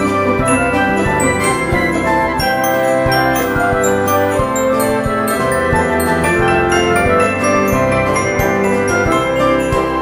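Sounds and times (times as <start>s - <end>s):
instrumental music with chiming notes: 0.0s - 10.0s.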